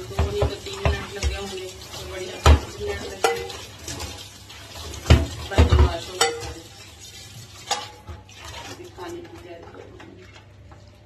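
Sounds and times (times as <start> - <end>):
pan clattering against sink: 0.0 - 10.3.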